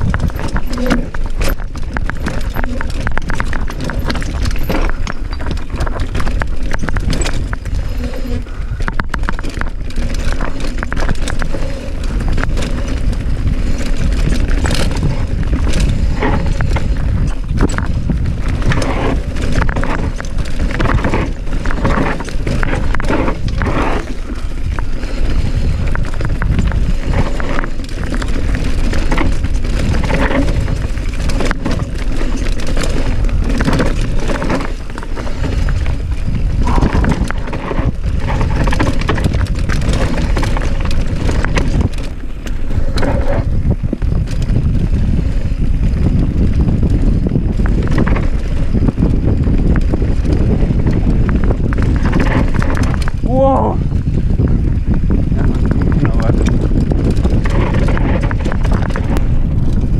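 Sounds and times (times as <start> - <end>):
mountain bike rattling over rocks: 0.0 - 59.9.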